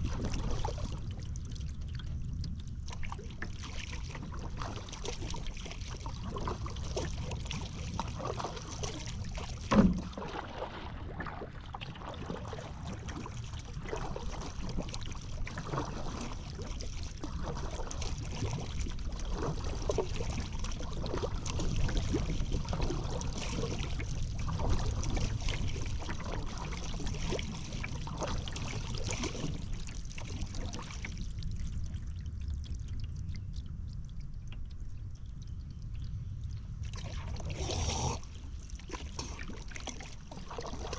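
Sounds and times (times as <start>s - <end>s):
paddle splashing and dripping water: 0.0s - 40.9s
steady low rumble: 0.0s - 40.9s.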